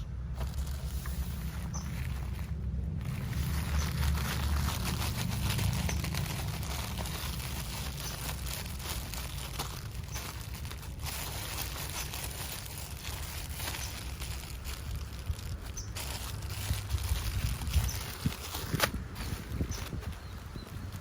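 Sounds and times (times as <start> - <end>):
low handling rumble: 0.0 - 21.0
packaging crinkling and rustling: 0.3 - 21.0
packaging tearing: 0.4 - 20.1.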